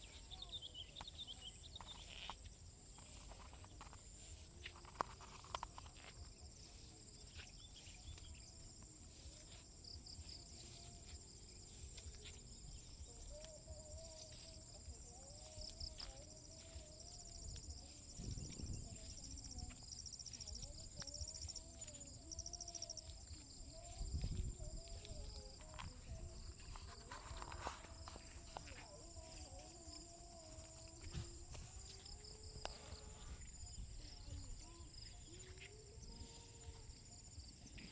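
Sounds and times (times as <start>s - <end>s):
insect pulsed chirps: 0.0s - 37.6s
faint footsteps: 0.0s - 37.9s
insects high-pitched drone: 0.0s - 37.9s.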